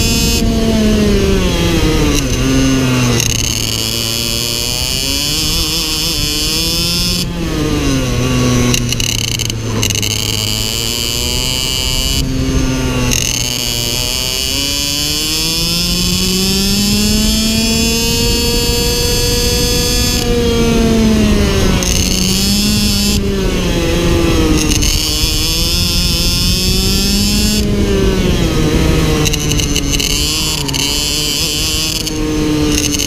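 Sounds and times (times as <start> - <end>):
kart engine revving: 0.0 - 33.0.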